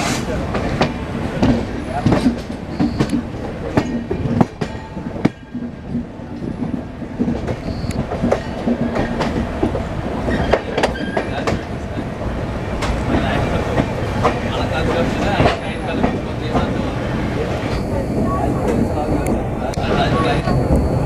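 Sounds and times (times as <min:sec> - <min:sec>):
train running: 0:00.0 - 0:21.0.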